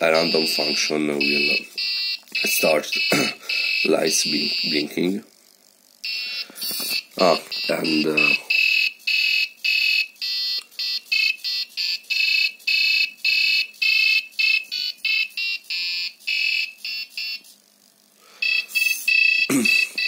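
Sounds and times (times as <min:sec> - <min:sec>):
piezo buzzer playing a tune: 0:00.0 - 0:05.1, 0:06.0 - 0:17.6, 0:18.4 - 0:20.0.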